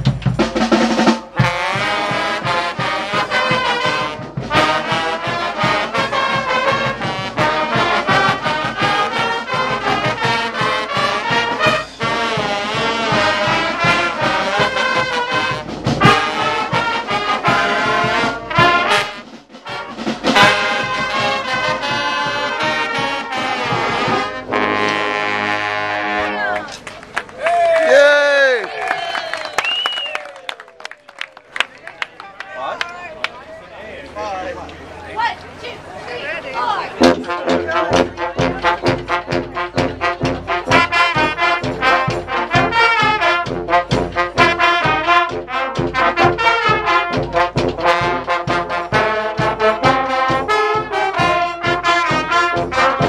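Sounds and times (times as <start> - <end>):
marching band playing: 0.0 - 53.0.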